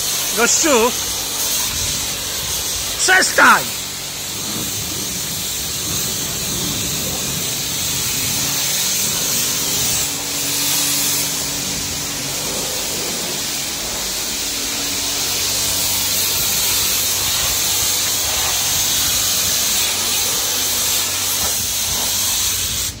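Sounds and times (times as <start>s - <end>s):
pressure washer spraying water: 0.0s - 23.0s.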